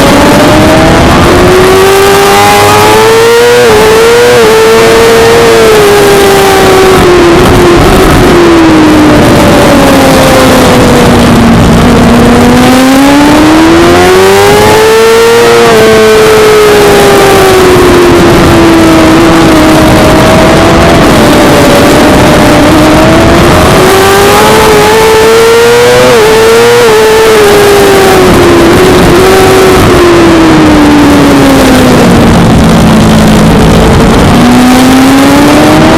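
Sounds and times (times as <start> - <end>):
motorcycle engine at high revs: 0.0 - 35.9
wind rush: 0.0 - 35.9.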